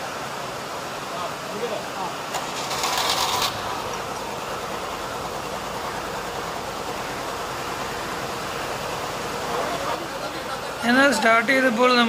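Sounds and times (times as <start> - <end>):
petrol engine idling: 2.3 - 12.0.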